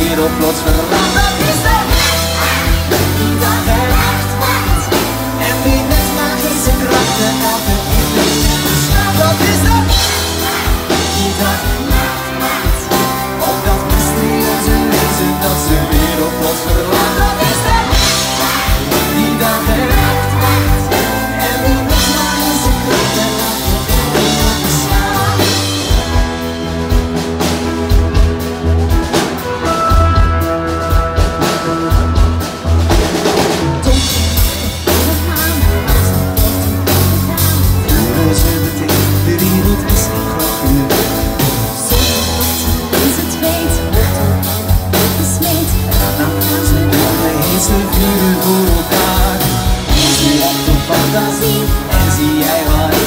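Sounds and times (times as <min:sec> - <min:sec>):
drum-kit beat: 0:00.0 - 0:53.0
live pop-rock band: 0:00.0 - 0:53.0.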